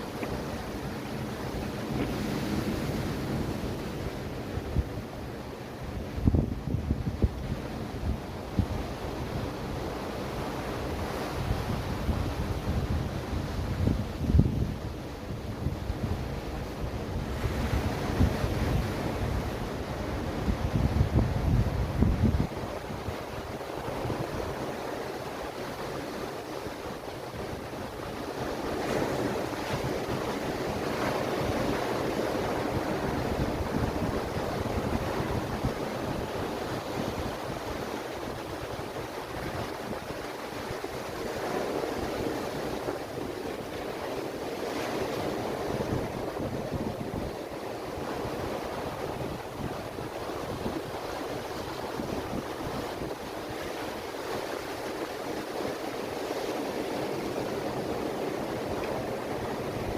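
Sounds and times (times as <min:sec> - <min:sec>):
ocean surf washing onto beach: 0:00.0 - 0:59.9
wind buffeting microphone: 0:00.0 - 0:59.9.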